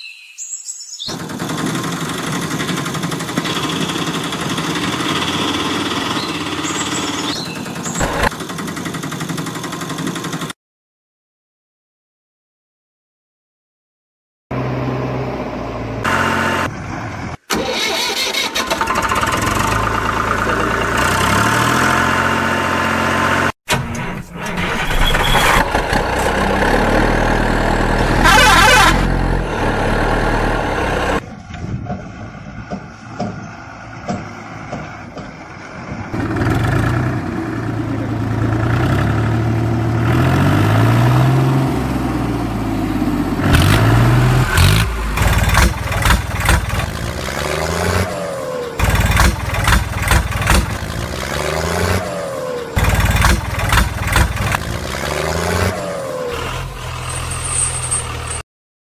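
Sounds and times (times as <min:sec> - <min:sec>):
tractor engine revving: 0:01.1 - 0:10.6, 0:14.5 - 0:58.4.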